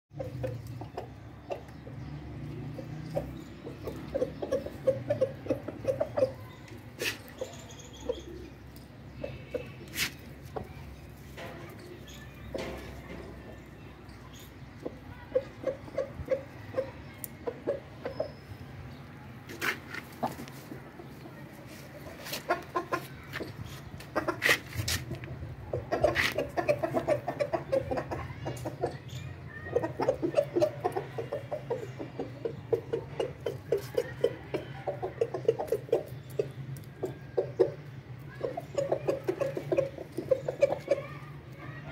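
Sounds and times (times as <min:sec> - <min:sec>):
chickens clucking: 0:00.1 - 0:41.9.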